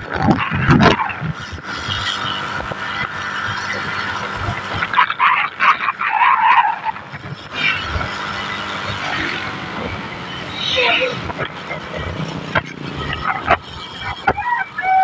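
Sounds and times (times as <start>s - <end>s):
vehicle road noise: 0.0s - 15.0s.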